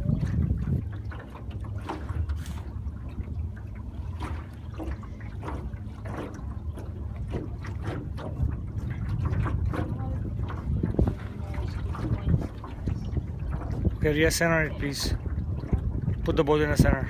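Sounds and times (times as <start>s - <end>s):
steady low rumble: 0.0s - 17.0s
water splashing against boat hull: 0.0s - 17.0s.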